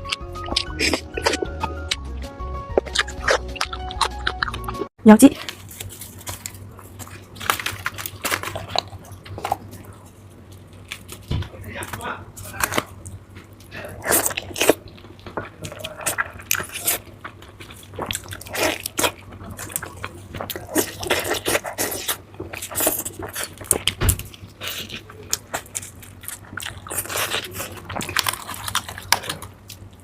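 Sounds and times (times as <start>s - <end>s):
chewing and mouth sounds: 0.0s - 2.1s, 2.7s - 30.0s.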